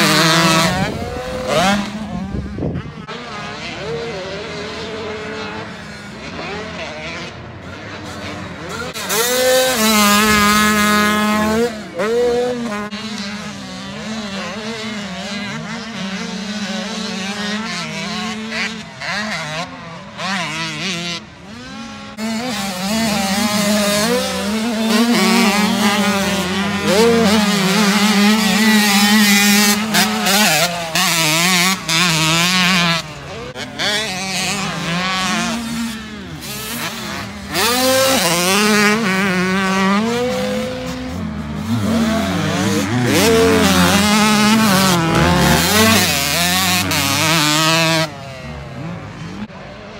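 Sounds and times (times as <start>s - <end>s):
dirt bike engines revving: 0.0s - 49.9s.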